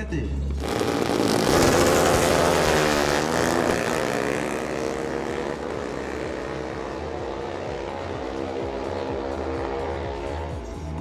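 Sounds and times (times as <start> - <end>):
motorcycle engines at full throttle: 0.0 - 11.0.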